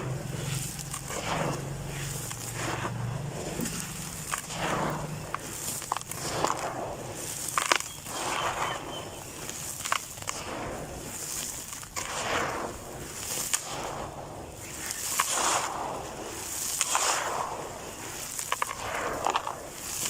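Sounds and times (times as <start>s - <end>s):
dry dirt crunching: 0.0s - 20.0s
sharp cracks: 0.0s - 20.0s.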